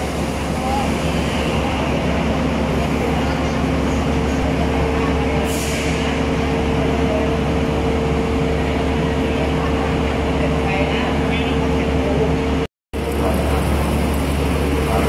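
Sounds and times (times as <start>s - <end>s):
diesel train idling: 0.0s - 15.0s.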